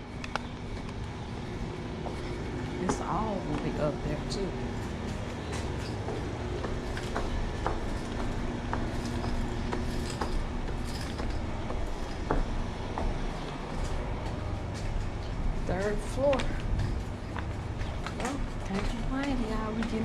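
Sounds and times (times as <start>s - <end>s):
footsteps climbing stairs: 0.0s - 20.0s
steady low rumble: 0.0s - 20.0s.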